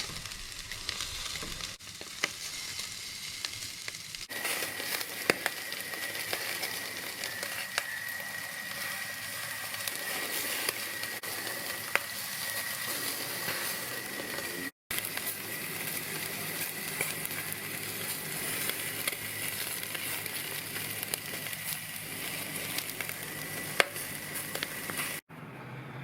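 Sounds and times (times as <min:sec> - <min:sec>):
meat sizzling on grill: 0:00.0 - 0:25.2.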